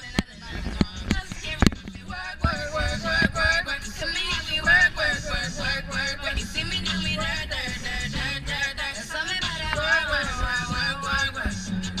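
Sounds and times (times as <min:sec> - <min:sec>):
hip-hop music with vocals: 0:00.0 - 0:12.0.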